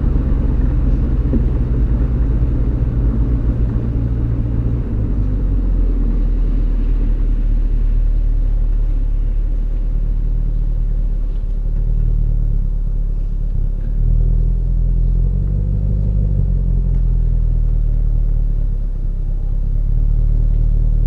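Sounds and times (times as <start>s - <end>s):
car exhaust rumbling: 0.0s - 21.0s.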